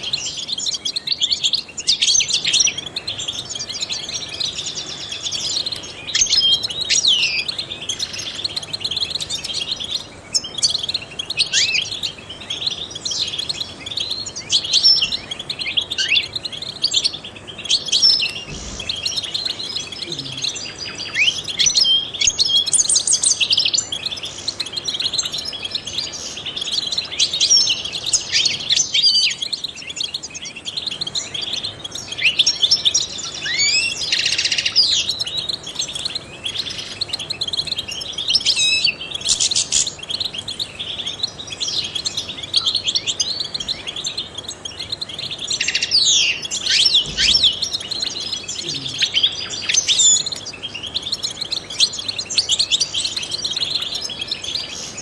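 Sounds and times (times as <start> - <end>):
finch singing twittering chirps: 0.0 - 55.0.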